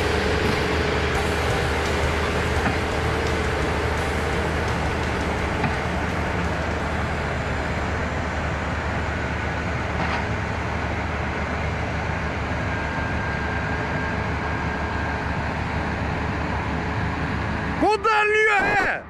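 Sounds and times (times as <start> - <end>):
tractor engines rumbling: 0.0 - 19.0.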